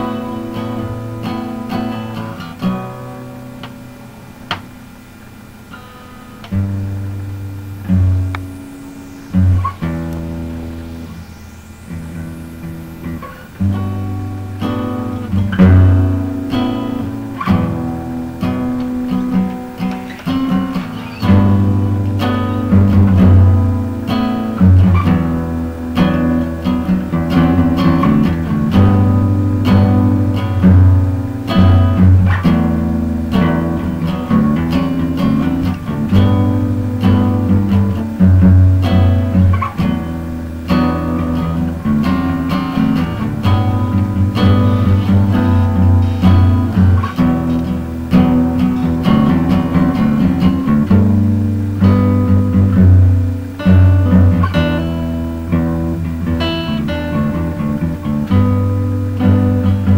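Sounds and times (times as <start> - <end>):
acoustic guitar song: 0.0 - 59.9.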